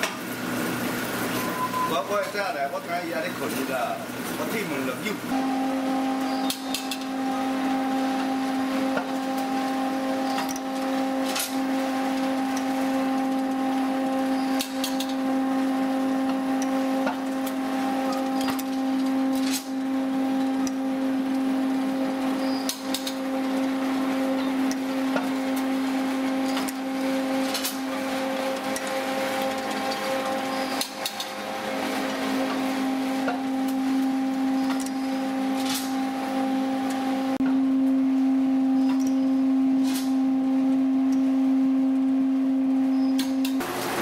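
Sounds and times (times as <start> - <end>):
noodle machine motor hum: 0.0 - 44.0.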